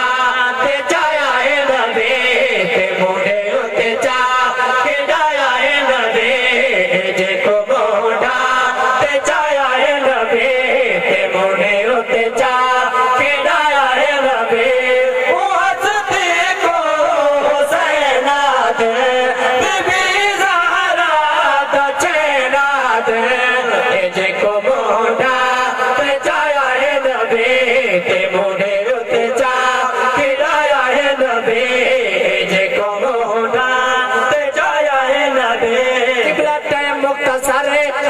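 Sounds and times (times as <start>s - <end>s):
men chanting over loudspeakers: 0.0s - 38.0s.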